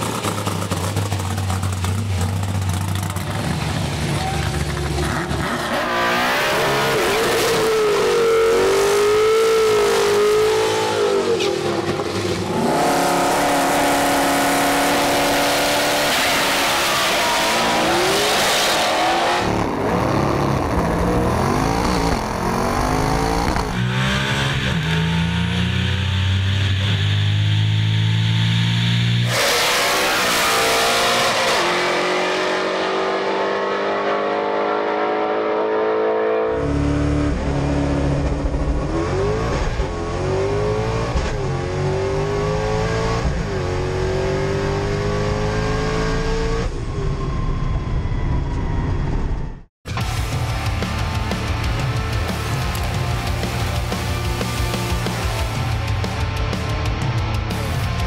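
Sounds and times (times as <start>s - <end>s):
engines revving and idling: 0.0s - 58.0s.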